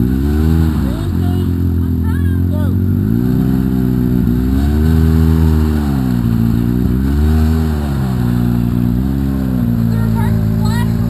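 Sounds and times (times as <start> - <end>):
utility vehicle engine revving: 0.0 - 11.0.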